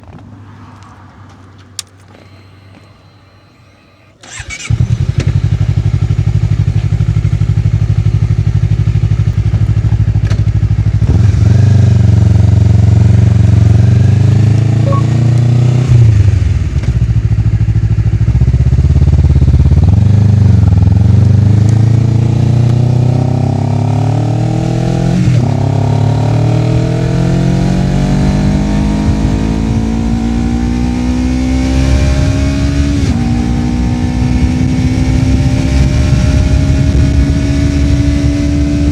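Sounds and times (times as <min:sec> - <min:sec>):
motorcycle engine idling and accelerating: 0:00.0 - 0:38.9.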